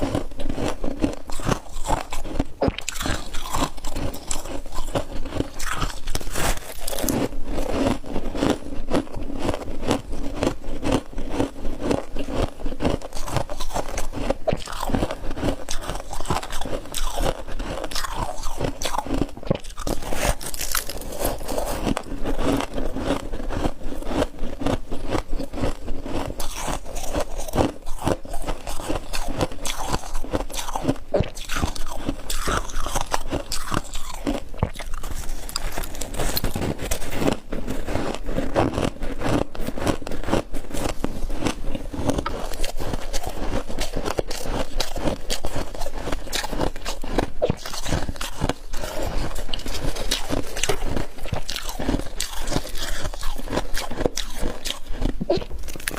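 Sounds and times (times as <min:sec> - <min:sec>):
chewing ice crunching: 0:00.0 - 0:55.9.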